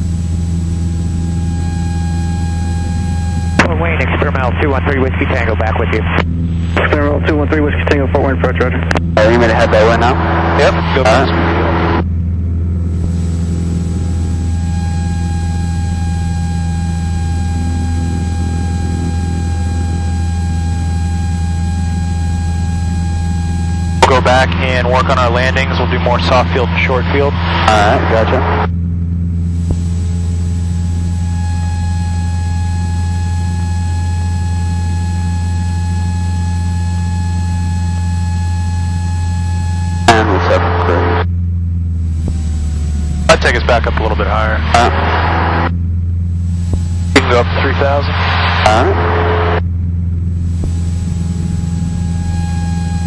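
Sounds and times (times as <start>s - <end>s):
airplane engine droning: 0.0s - 53.0s
thin steady whine: 0.0s - 53.0s.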